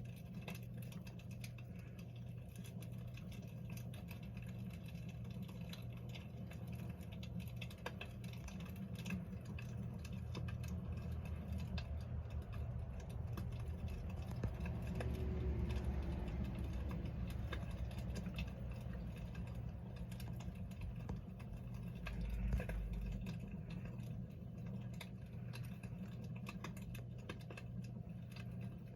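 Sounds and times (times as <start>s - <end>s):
low hum: 0.0s - 28.9s
wood fire crackling and popping: 0.0s - 28.9s.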